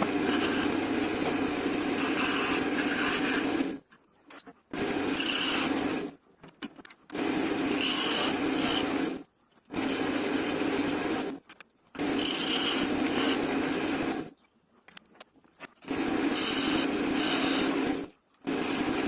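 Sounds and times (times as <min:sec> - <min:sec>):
tool working wood: 0:00.0 - 0:03.8, 0:04.8 - 0:06.2, 0:07.1 - 0:09.2, 0:09.8 - 0:14.4, 0:15.7 - 0:19.0.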